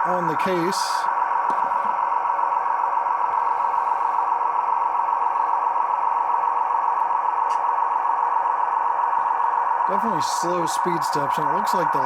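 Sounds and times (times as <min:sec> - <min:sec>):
model locomotive turbine whine: 0:00.0 - 0:12.0.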